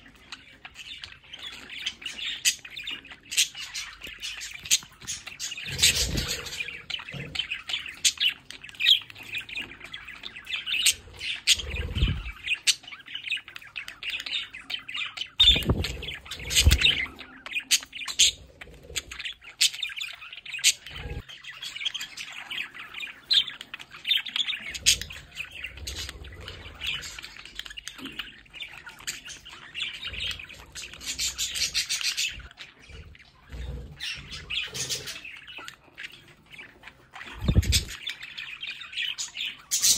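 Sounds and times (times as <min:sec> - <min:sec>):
budgerigars warbling and chirping: 0:00.0 - 0:39.9.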